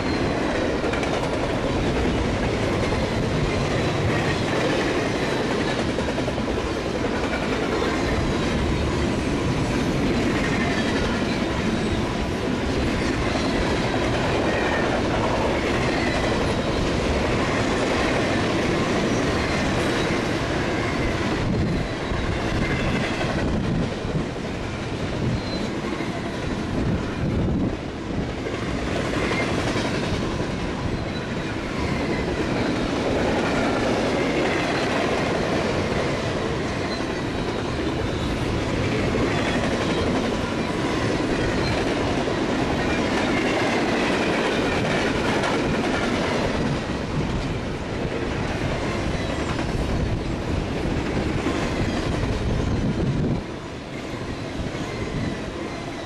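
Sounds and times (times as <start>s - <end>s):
freight train rumbling and rattling: 0.0s - 56.0s.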